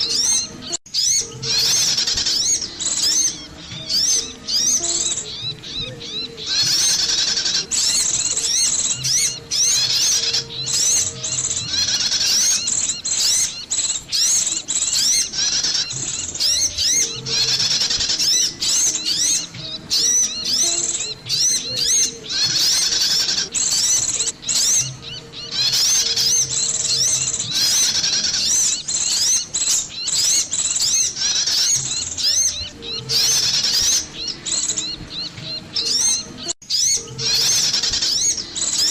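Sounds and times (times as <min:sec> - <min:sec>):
songbirds rapid high chirps: 0:00.0 - 0:38.9.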